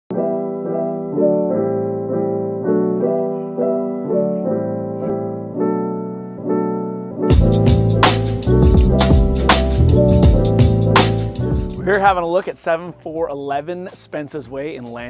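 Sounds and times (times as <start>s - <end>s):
keyboard playing repeated chords: 0.1s - 13.6s.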